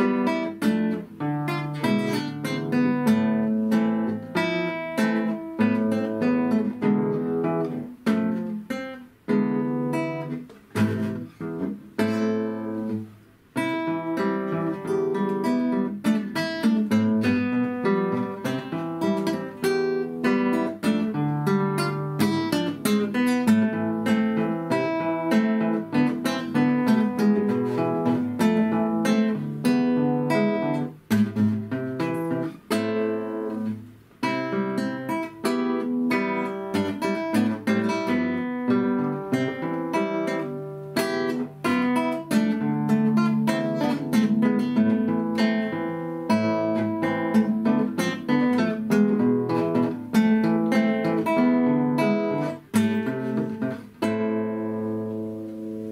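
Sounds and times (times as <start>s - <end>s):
fingerstyle classical guitar: 0.0s - 55.9s.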